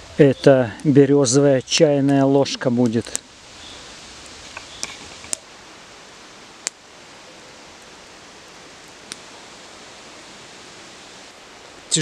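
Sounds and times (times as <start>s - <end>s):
campfire popping: 0.0s - 12.0s
campfire rustling hiss: 0.0s - 12.0s.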